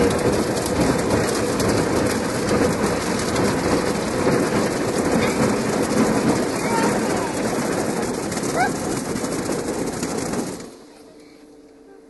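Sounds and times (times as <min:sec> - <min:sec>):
spinning brushes hitting car: 0:00.0 - 0:10.9
water spray on car: 0:00.0 - 0:11.0.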